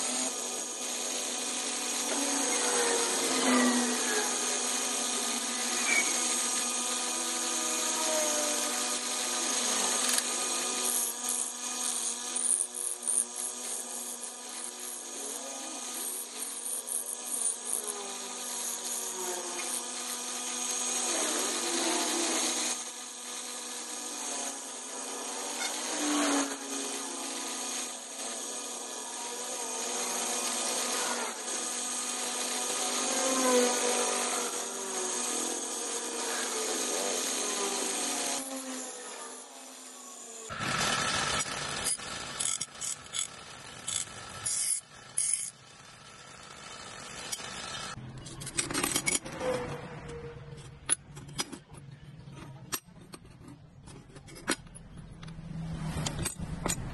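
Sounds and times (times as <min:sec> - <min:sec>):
bench grinder grinding steel: 0:00.0 - 0:56.9.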